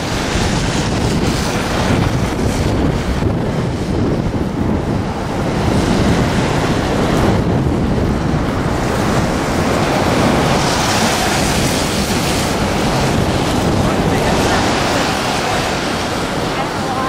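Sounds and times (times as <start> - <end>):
roar of falling water: 0.0 - 17.0
wind buffeting microphone: 0.0 - 17.0.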